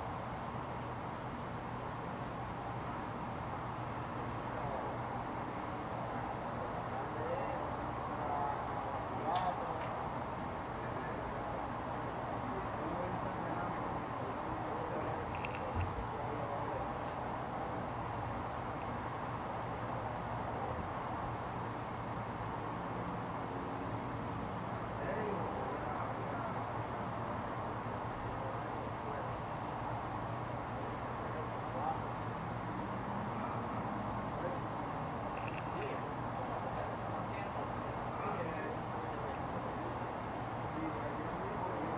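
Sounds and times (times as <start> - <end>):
cricket trilling: 0.0 - 41.9
dull background murmur: 2.3 - 41.9.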